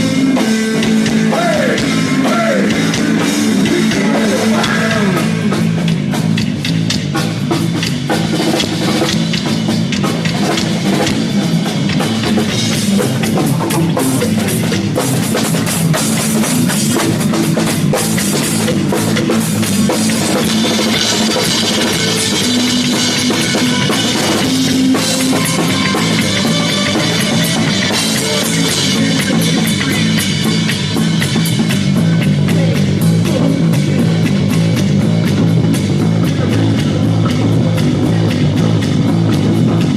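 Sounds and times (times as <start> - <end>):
live rock band playing: 0.0 - 39.9
pounding drum kit: 0.0 - 39.9.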